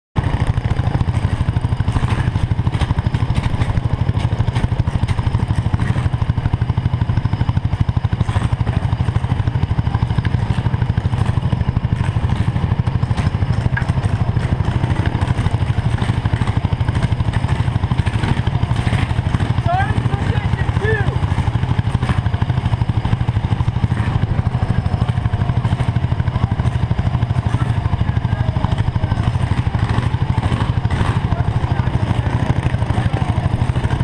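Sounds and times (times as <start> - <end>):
kart engine idling: 0.2 - 34.0.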